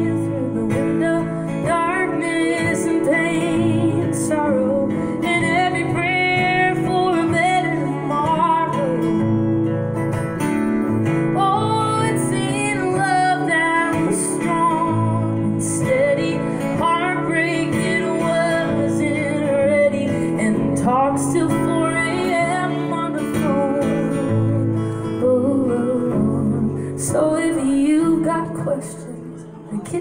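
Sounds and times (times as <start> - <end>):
woman singing with vibrato: 0.0 - 9.3, 11.3 - 30.0
acoustic guitar: 0.0 - 30.0.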